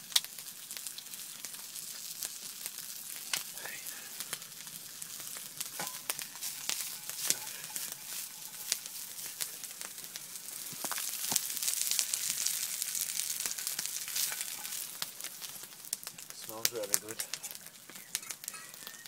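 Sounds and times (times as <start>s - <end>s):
food sizzling in frying pan: 0.0s - 19.0s
sharp pops and crackles: 0.0s - 19.0s.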